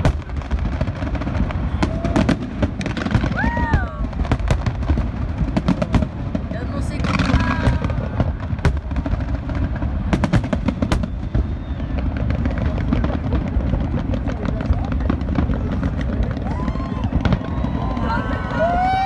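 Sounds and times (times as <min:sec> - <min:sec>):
fireworks bangs: 0:00.0 - 0:19.0
fireworks rumble: 0:00.0 - 0:19.0.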